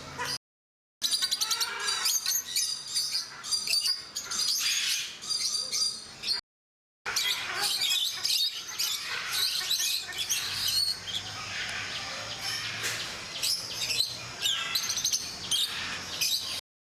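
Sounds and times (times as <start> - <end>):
many birds chirping and squawking: 0.0 - 0.4, 1.0 - 6.4, 7.1 - 16.6.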